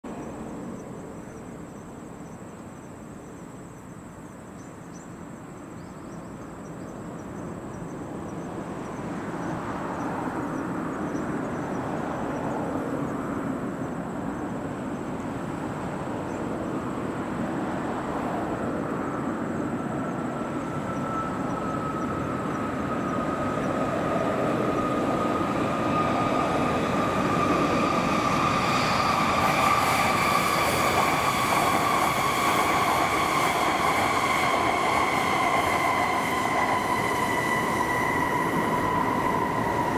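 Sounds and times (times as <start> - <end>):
high-speed train running noise: 0.0 - 4.4, 5.2 - 39.9
high train whine: 7.2 - 39.9.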